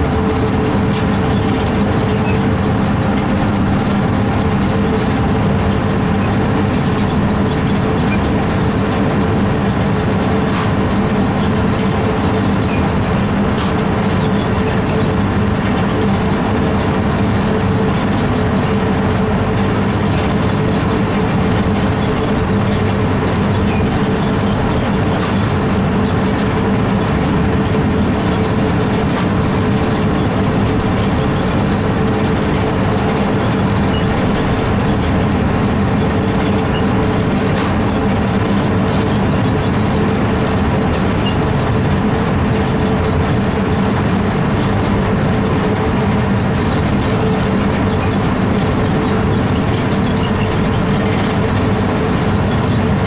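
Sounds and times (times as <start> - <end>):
train cab mechanical hum: 0.0 - 53.0
wheels clicking on rails: 0.0 - 53.0.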